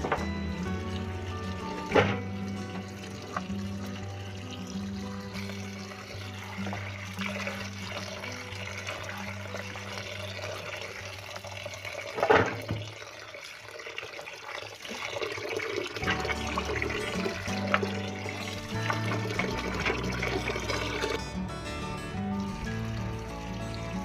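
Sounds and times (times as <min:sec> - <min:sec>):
tap water running into basin: 0:00.0 - 0:24.0.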